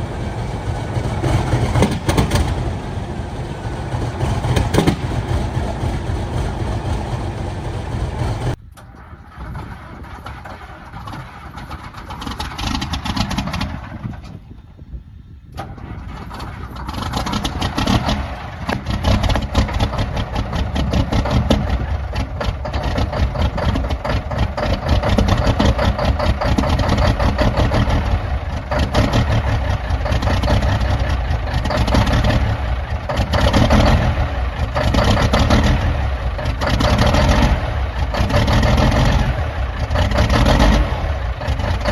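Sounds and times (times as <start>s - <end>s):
large diesel engine starting: 0.0s - 41.9s.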